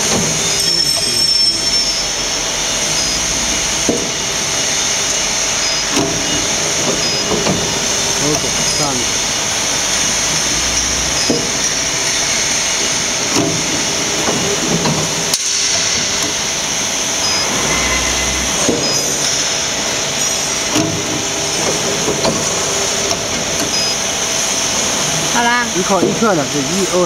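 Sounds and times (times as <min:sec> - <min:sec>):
machine hissing and humming: 0:00.0 - 0:27.0.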